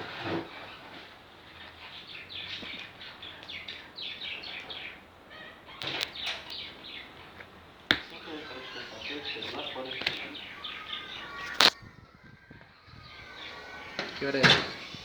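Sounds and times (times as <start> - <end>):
bird chirping: 0.3 - 15.0.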